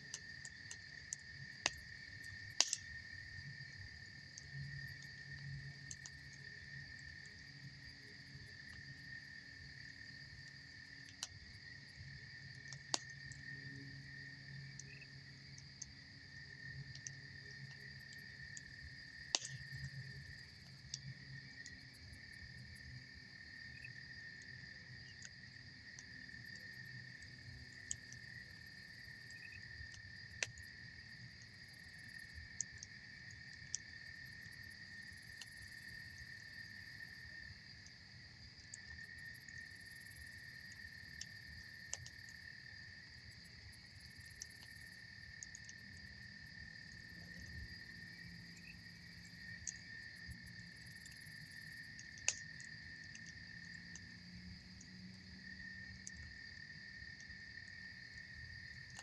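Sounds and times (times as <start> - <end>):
campfire crackling and popping: 0.0 - 59.0
insects chirring: 0.0 - 59.0.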